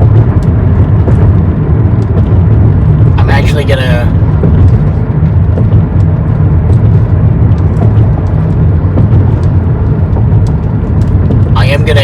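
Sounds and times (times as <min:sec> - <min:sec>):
car driving on road: 0:00.0 - 0:12.0.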